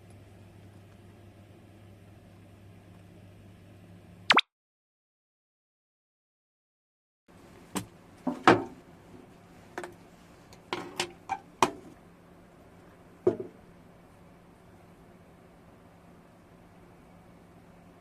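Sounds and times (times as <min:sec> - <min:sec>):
faint steady hum: 0:00.0 - 0:04.3, 0:07.3 - 0:18.0.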